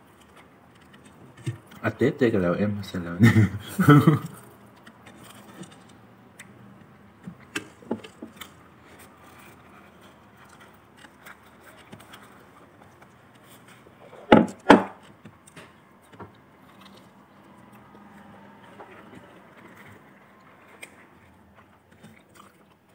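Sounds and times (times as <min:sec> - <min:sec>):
food and plastic cups handled: 0:04.0 - 0:22.9.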